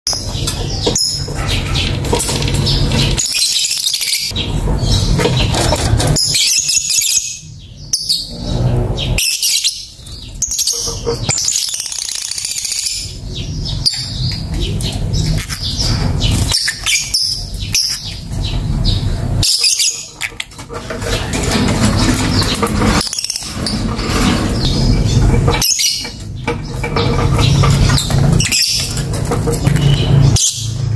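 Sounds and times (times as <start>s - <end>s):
lovebird chirping and trilling: 0.1s - 21.4s, 22.2s - 30.8s.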